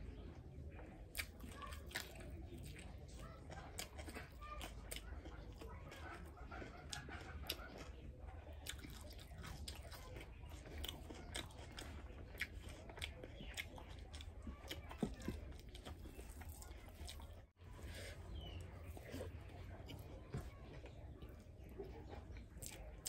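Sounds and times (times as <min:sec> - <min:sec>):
person chewing crunchy food: 0:00.3 - 0:23.0.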